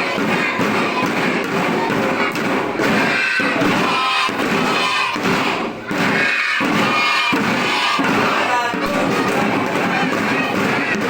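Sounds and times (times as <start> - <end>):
drums struck in rhythm: 0.0 - 11.0
music: 0.0 - 11.0.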